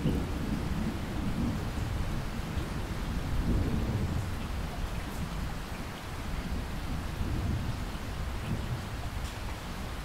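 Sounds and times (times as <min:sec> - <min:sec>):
heavy rain splashing into water: 0:00.0 - 0:10.0.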